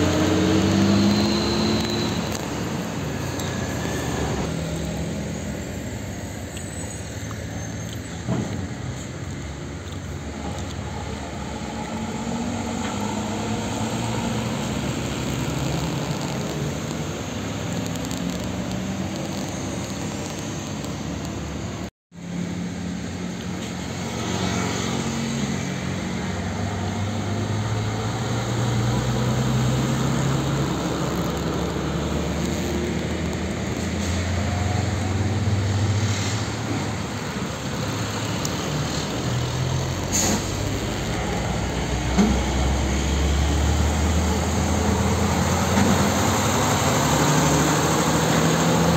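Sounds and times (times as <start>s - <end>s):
heavy diesel trucks passing: 0.0s - 48.9s
road noise: 0.0s - 48.9s.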